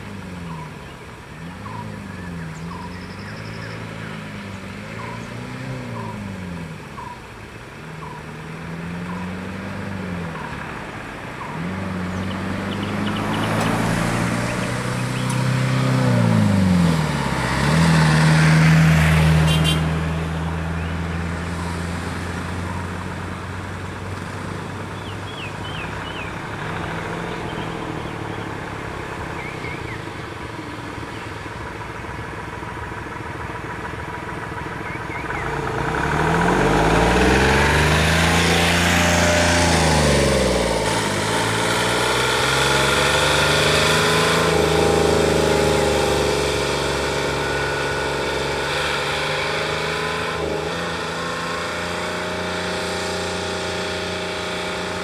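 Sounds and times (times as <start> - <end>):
vehicle engines idling and revving: 0.0 - 55.0.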